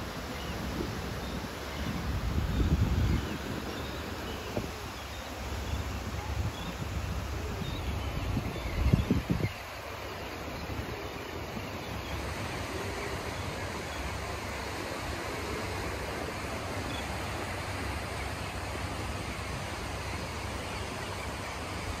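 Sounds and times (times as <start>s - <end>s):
wind rumbling on microphone: 0.0s - 20.9s
small waves washing onto beach: 0.0s - 22.0s.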